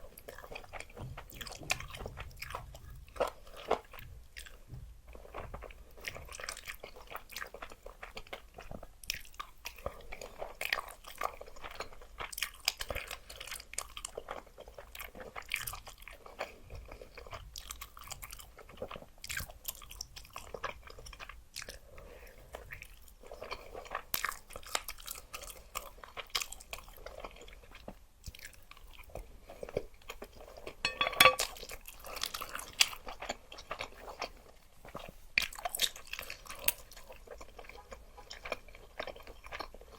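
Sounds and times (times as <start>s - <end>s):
chewing noodles: 0.0s - 39.9s.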